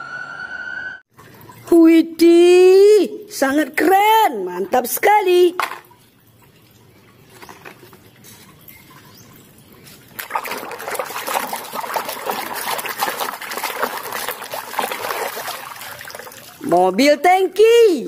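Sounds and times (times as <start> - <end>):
water sloshing in a basin: 1.1 - 2.2, 3.2 - 17.8
water trickling and dripping: 1.1 - 18.0.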